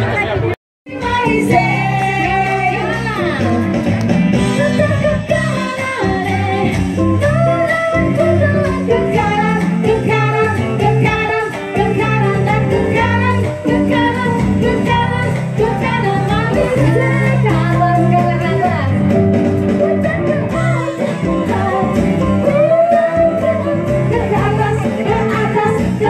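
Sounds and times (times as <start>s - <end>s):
band accompaniment: 0.0s - 26.0s
steady bass line: 0.0s - 26.0s
woman singing into microphone: 0.1s - 26.0s.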